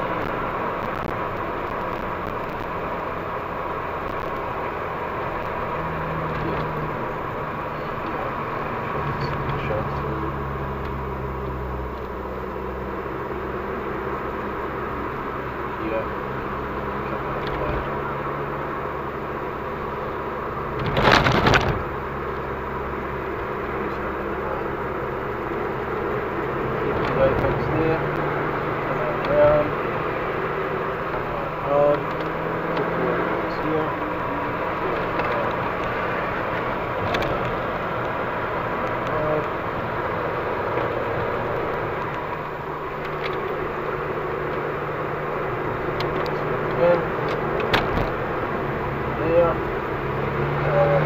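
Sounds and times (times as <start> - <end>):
car engine and road drone: 0.0 - 51.0.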